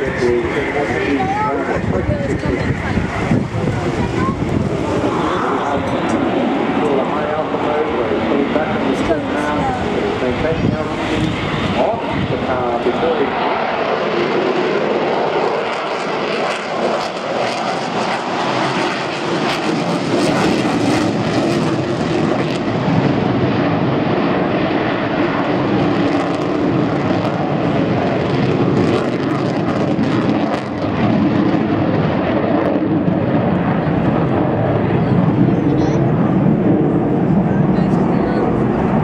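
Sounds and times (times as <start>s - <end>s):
aircraft engine noise: 0.0s - 39.0s.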